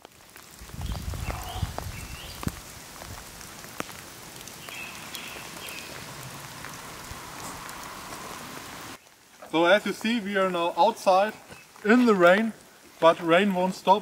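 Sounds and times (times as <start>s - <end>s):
rain on wet asphalt: 0.0s - 14.0s.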